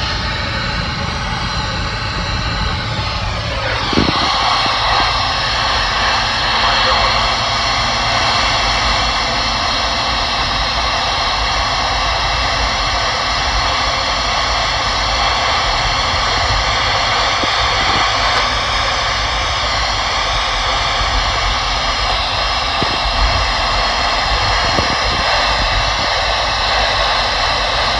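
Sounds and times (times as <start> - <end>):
radio static hiss: 0.0 - 27.9.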